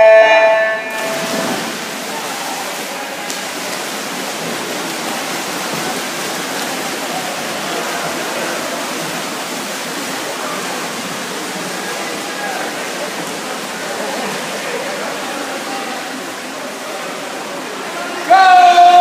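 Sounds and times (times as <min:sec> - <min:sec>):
swimmers splashing: 0:00.8 - 0:19.0.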